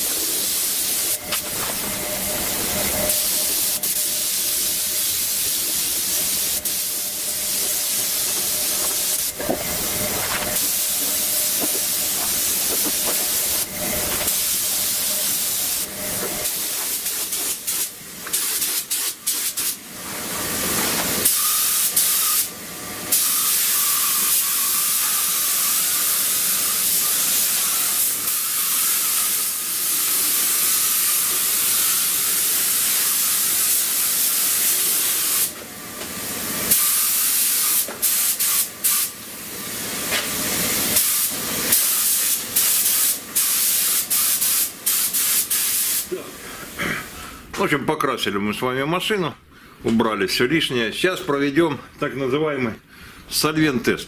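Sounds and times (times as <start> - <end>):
spray gun hissing: 0.0 - 22.5, 23.1 - 35.6, 36.7 - 46.1.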